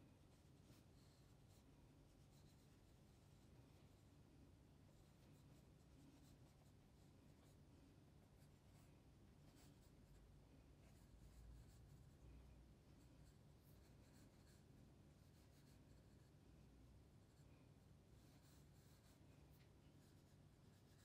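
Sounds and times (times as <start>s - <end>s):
pencil scratching on paper: 0.1s - 4.1s, 4.9s - 12.2s, 12.8s - 16.4s, 17.0s - 21.0s.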